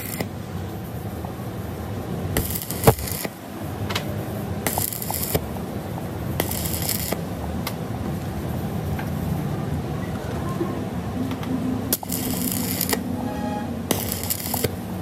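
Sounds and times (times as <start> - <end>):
welding arc crackling and hissing: 0.0 - 9.5, 11.7 - 15.0.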